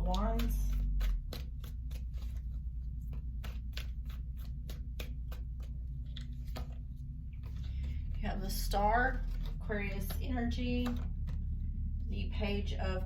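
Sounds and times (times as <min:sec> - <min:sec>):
cards being shuffled: 0:00.0 - 0:11.8
low steady hum: 0:00.0 - 0:13.0.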